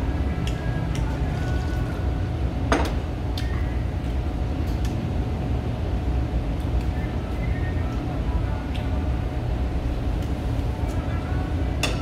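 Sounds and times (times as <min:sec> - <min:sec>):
restaurant room rumble: 0:00.0 - 0:12.0.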